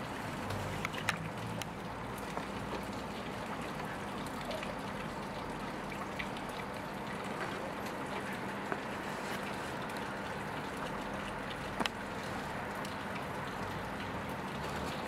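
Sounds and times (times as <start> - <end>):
rain falling and trickling: 0.0 - 15.0.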